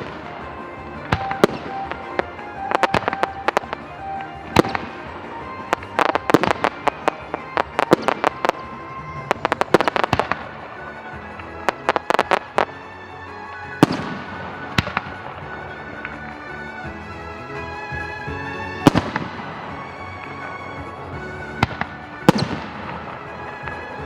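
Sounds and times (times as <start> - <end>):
background music: 0.0 - 24.0
fireworks bangs: 0.0 - 24.0.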